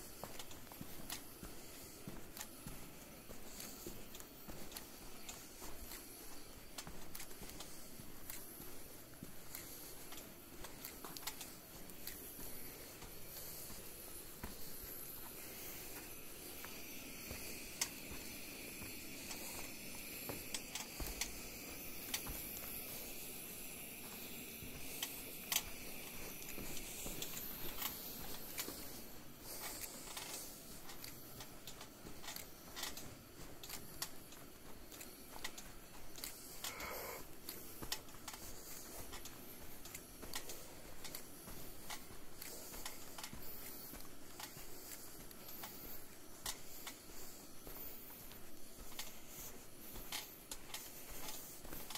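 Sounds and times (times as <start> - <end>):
steady low hiss: 0.0 - 51.9.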